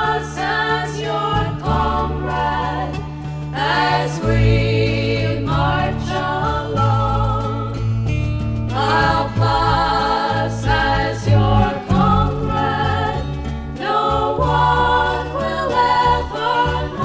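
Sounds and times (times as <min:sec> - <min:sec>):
voices singing in harmony: 0:00.0 - 0:08.1, 0:08.7 - 0:17.0
steady bass accompaniment: 0:00.0 - 0:17.0.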